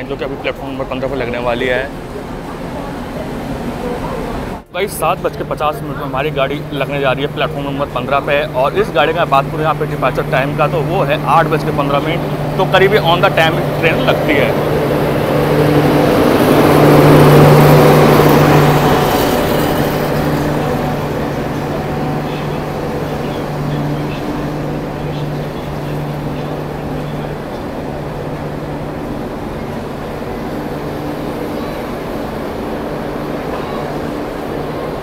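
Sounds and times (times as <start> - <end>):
train rumble: 0.0 - 35.0
steady low hum: 1.4 - 35.0.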